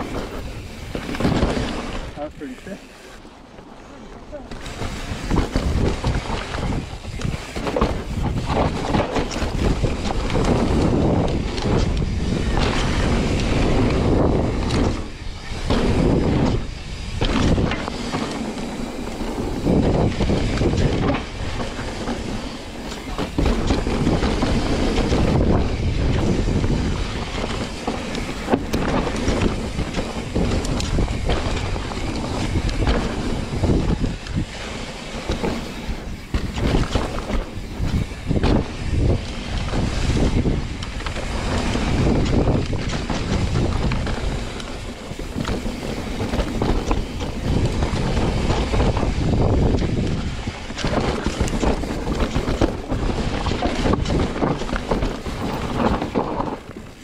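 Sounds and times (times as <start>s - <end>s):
wind on microphone: 0.0s - 3.2s, 4.4s - 57.0s
bike tyres rumbling and rattling: 0.0s - 57.0s.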